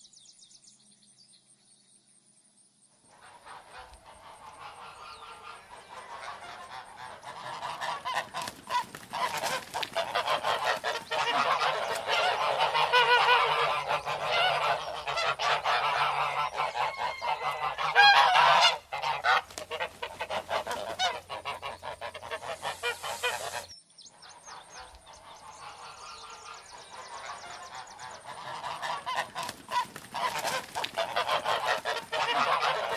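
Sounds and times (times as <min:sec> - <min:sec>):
geese honking: 0:03.1 - 0:23.7, 0:24.4 - 0:32.9.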